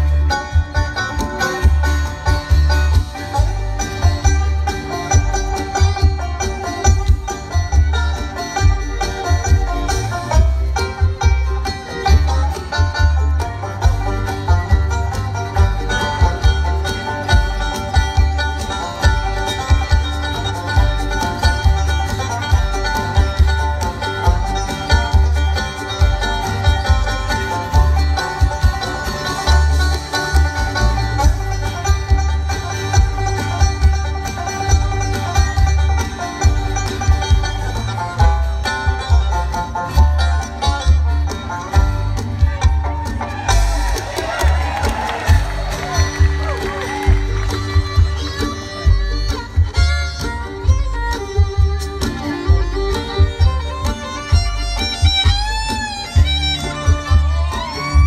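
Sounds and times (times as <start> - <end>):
banjo picking: 0.0 - 58.0
bluegrass band playing: 0.0 - 58.0
upright bass thumping: 0.0 - 58.0.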